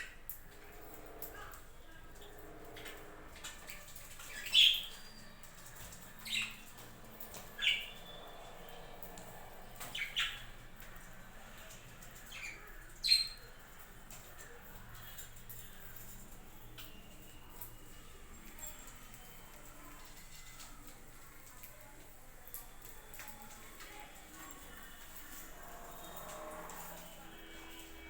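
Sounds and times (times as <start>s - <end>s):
faint background chatter: 0.0s - 28.0s.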